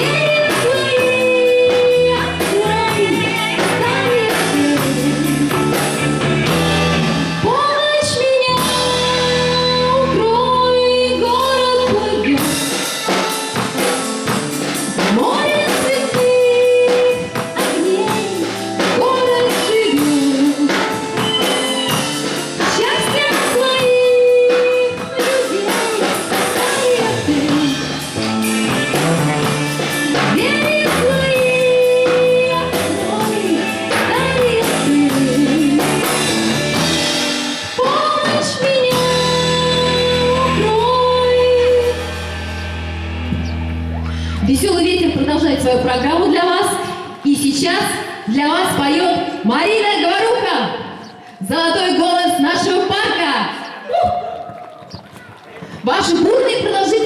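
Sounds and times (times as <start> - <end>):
guitar: 0.0 - 52.0
drums: 0.0 - 57.0.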